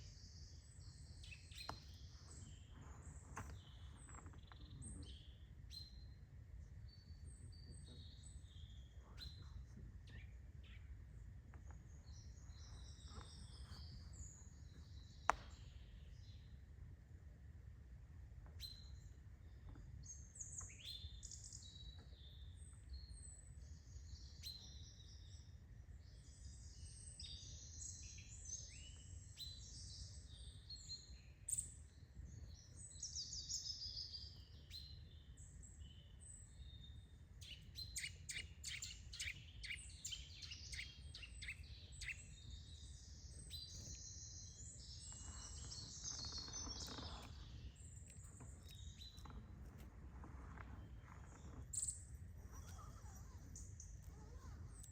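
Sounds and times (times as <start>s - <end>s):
small birds chirping and singing: 0.0s - 16.6s, 18.4s - 54.9s.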